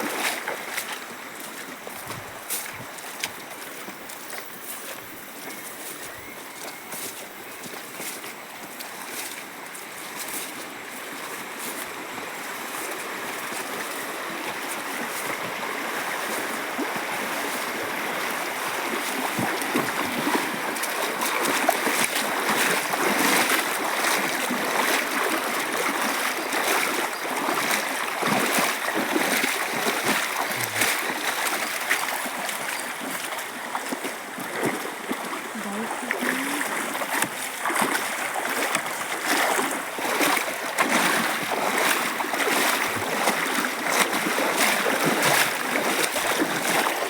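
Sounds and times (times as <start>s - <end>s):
small splashes: 0.0s - 5.0s, 12.7s - 47.0s
stream rushing over rocks: 0.0s - 47.0s.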